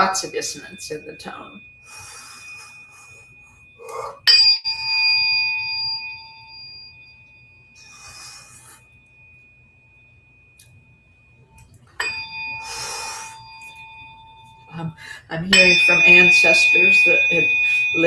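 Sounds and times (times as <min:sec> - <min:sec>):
tuning forks ringing: 0:00.0 - 0:18.0.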